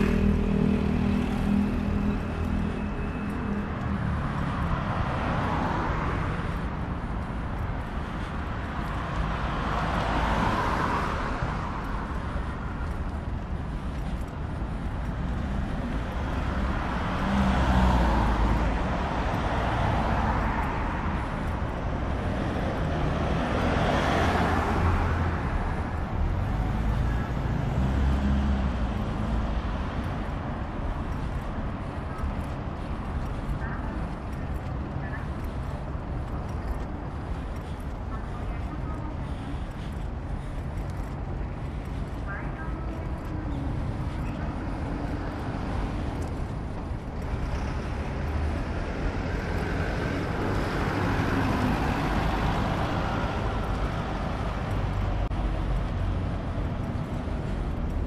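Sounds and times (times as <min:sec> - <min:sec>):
cars passing: 0:00.0 - 0:58.0
low traffic rumble: 0:00.0 - 0:58.0.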